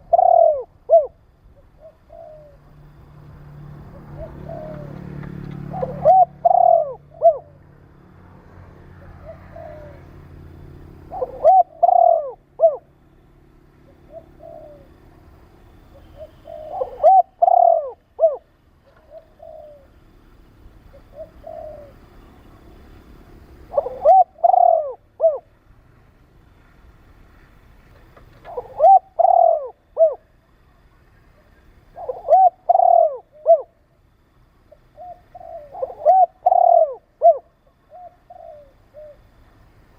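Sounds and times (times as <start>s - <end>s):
dove cooing: 0.0s - 25.6s, 28.2s - 39.8s.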